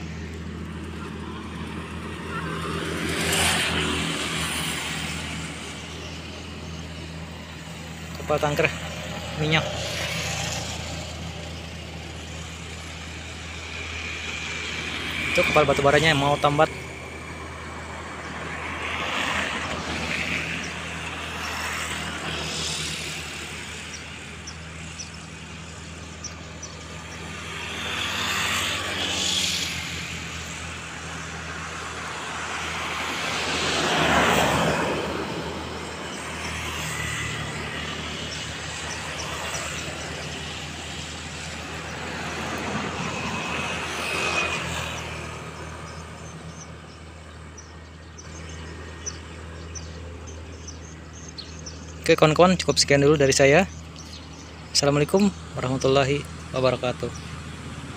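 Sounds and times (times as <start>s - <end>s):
vehicles passing: 0.0s - 57.9s.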